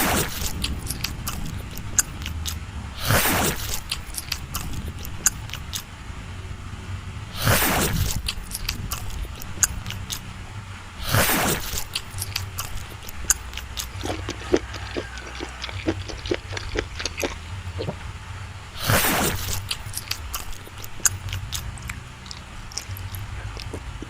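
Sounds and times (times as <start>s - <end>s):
loud bites or slurps: 0.0s - 5.9s, 7.4s - 10.2s, 11.0s - 18.0s, 18.8s - 24.0s
person chewing and smacking: 0.0s - 5.9s, 7.4s - 10.2s, 11.0s - 18.0s, 18.8s - 24.0s.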